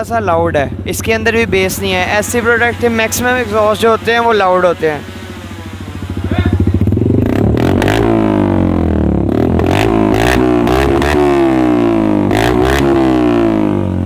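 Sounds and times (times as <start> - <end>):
exhaust cracks: 0.0 - 14.0
motorcycle engine revving: 0.0 - 14.0.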